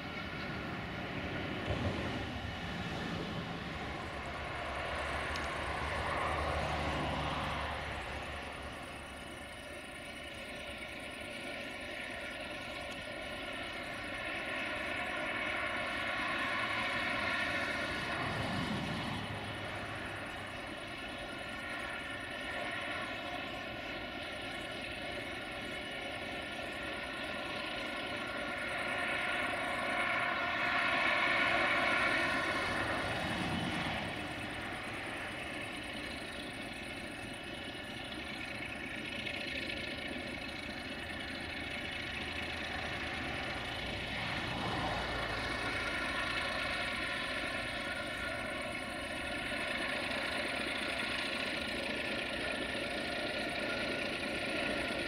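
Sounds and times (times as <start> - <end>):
locomotive diesel engine drone: 0.0 - 55.0.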